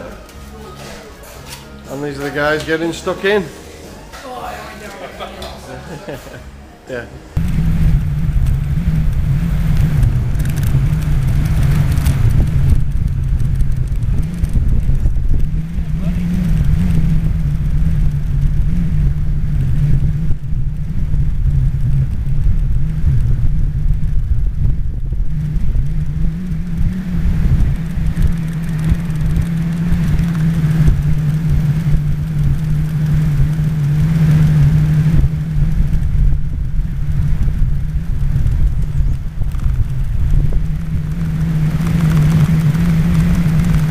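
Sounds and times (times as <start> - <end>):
road rumble: 0.0 - 43.9
steady low hum: 0.0 - 43.9
wind rushing over microphone: 7.4 - 43.9.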